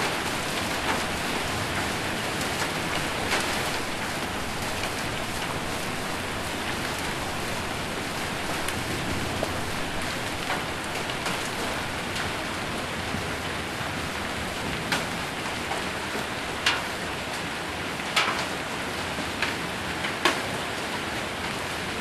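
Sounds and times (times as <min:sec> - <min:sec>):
hailstones ticking: 0:00.0 - 0:18.6
rain on metal roof: 0:00.0 - 0:22.0.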